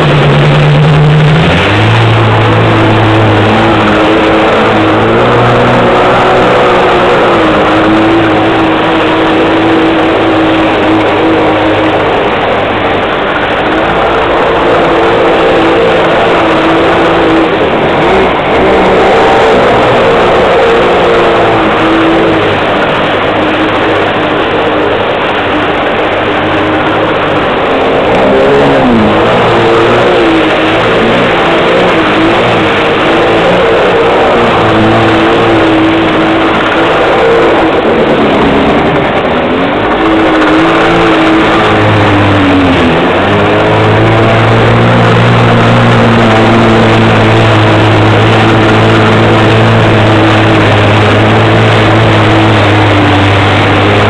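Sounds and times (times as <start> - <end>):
jet ski engine running: 0.0 - 54.0
rush of spray and wind: 0.0 - 54.0.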